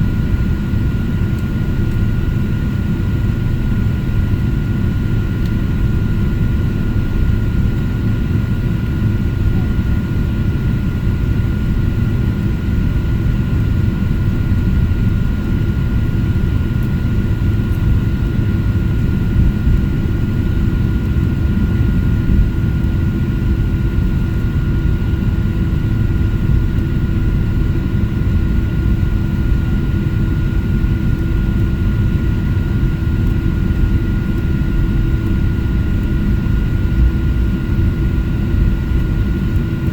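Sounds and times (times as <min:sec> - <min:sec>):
airplane engines rumbling: 0:00.0 - 0:39.9
thin steady engine whine: 0:00.0 - 0:39.9.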